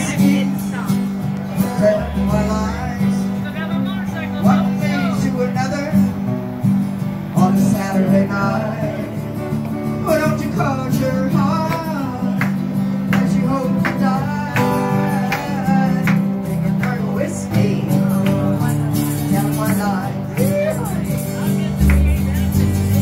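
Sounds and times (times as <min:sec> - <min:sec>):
electric guitar: 0:00.0 - 0:23.0
strummed acoustic guitars: 0:00.0 - 0:23.0.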